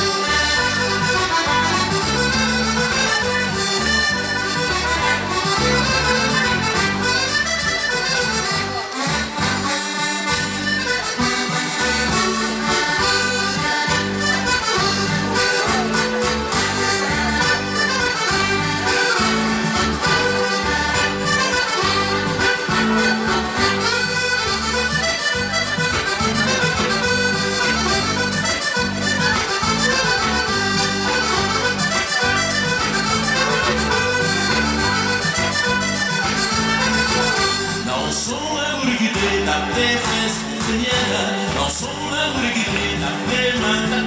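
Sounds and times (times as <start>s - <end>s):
button accordion playing: 0.0s - 44.0s.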